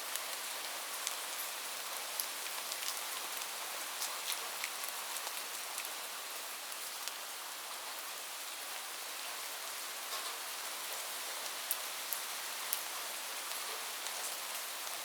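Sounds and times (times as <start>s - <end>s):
rain drops ticking: 0.0s - 8.0s, 10.1s - 15.0s
steady rain hiss: 0.0s - 15.0s.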